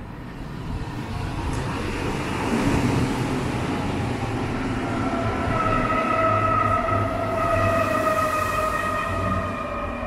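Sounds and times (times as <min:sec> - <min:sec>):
electric train rumbling: 0:00.0 - 0:10.0
train whine: 0:01.5 - 0:10.0.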